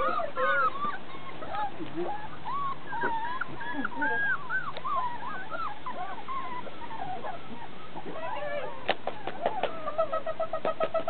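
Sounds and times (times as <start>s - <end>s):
puppy pulsed cries: 0.0s - 11.0s
puppy whimpering: 0.0s - 11.0s.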